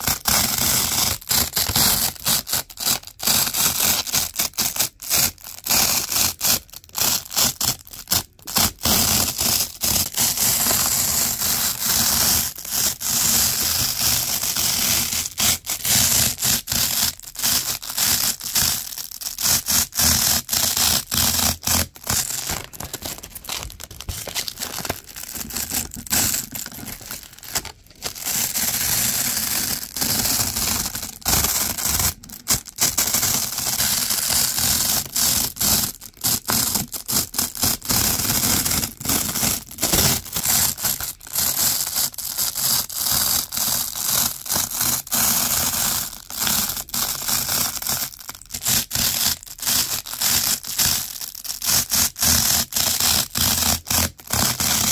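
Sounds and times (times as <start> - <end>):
velcro scratching: 0.0 - 54.9.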